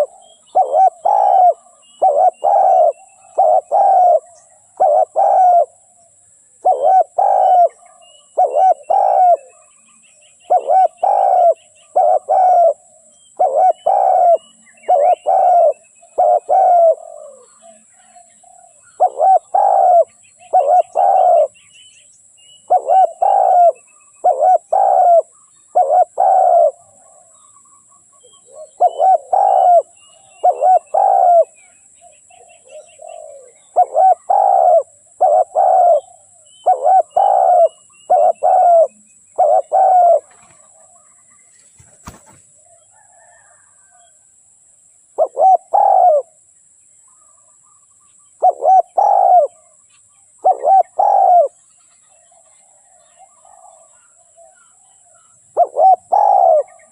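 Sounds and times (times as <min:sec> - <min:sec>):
dove cooing: 0:00.0 - 0:21.6, 0:22.6 - 0:44.2, 0:45.2 - 0:46.4, 0:48.4 - 0:49.8, 0:50.4 - 0:51.6, 0:52.2 - 0:56.9
small birds chirping: 0:00.0 - 0:44.2, 0:45.0 - 0:56.9.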